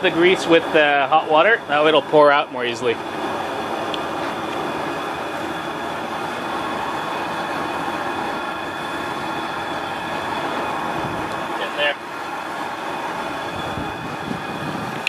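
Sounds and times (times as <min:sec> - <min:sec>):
gas burner flame rushing: 0:00.0 - 0:15.0.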